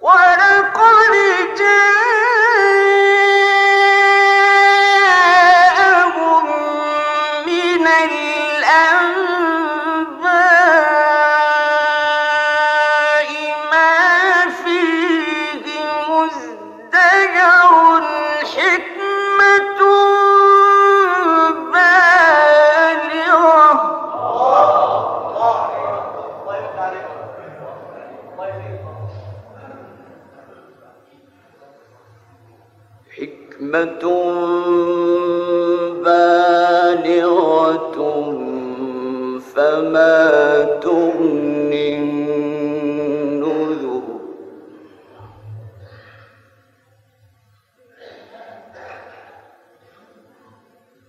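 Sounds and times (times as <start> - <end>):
man reciting melodically: 0.0 - 30.4, 32.9 - 46.4.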